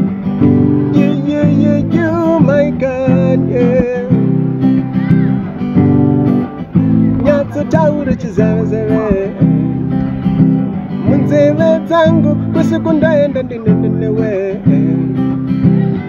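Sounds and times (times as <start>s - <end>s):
acoustic guitar strumming: 0.0s - 16.0s
man singing: 0.8s - 5.1s, 6.7s - 10.3s, 10.9s - 16.0s.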